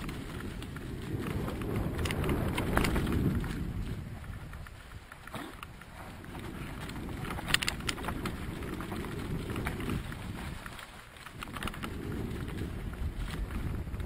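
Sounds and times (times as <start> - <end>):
rattle of clicks: 0.0 - 12.2
tyres rumbling on dirt and leaves: 0.0 - 14.0
wind buffeting microphone: 0.0 - 14.0.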